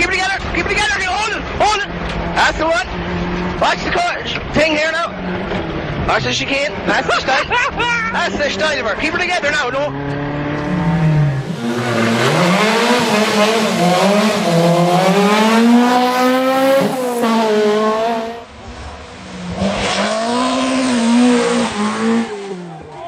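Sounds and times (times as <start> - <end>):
rally car engine at full throttle: 0.0 - 23.0.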